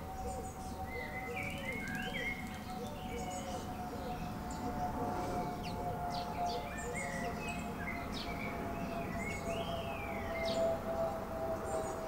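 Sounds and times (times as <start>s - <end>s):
whistled bird notes: 0.0s - 10.7s
birds chirping and twittering: 0.0s - 12.0s
steady droning tone: 0.0s - 12.0s.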